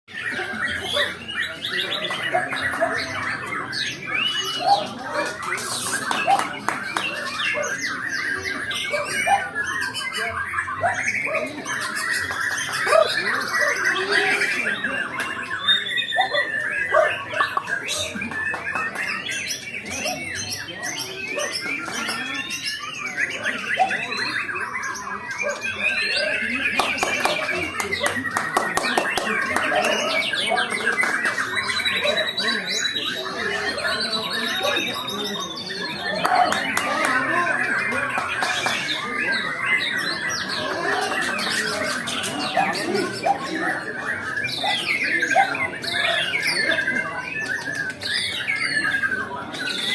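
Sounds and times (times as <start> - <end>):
other birds calling: 0.1 - 49.9
songbird singing whistles and chatter: 0.1 - 49.9.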